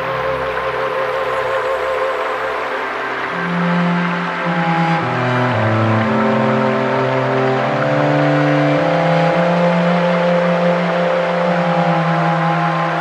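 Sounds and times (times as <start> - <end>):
slow ambient music: 0.0 - 13.0.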